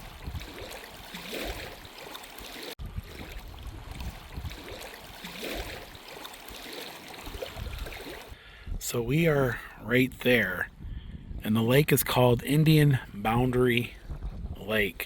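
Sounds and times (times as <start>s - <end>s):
wind buffeting microphone: 0.0s - 1.9s, 2.8s - 6.1s, 7.2s - 9.5s, 10.1s - 15.0s.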